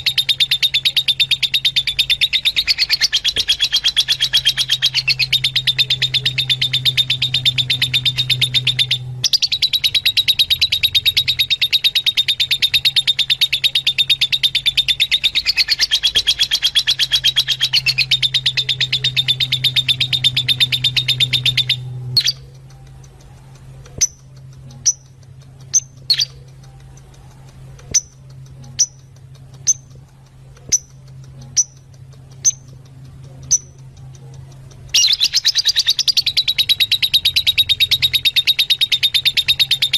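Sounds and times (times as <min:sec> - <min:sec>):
lovebirds chattering: 0:00.0 - 0:39.9
steady low hum: 0:00.0 - 0:39.9.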